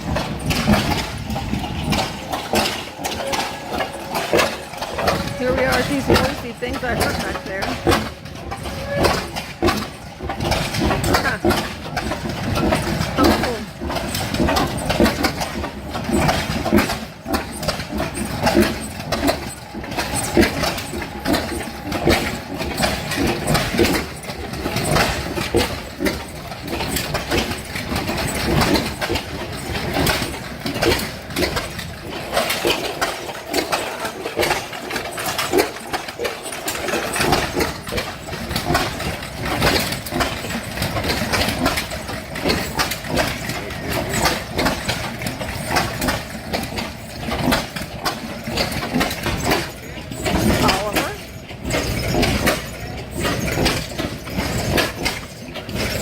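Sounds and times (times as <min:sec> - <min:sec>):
old engines knocking and popping: 0:00.0 - 0:56.0.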